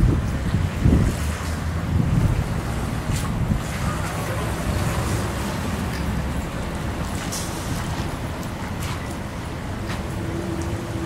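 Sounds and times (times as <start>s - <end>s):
traffic on wet pavement: 0.0s - 11.0s
wind buffeting microphone: 0.0s - 11.0s.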